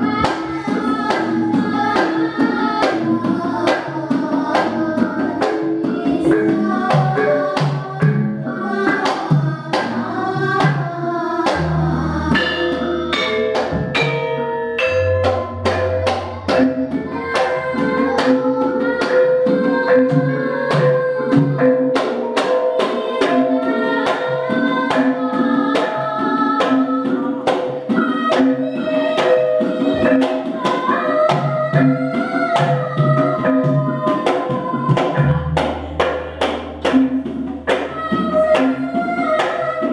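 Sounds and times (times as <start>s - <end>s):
girl singing through microphone: 0.0s - 13.3s, 14.8s - 39.9s
gamelan ensemble playing: 0.0s - 39.9s
hand drum beat: 0.0s - 39.9s.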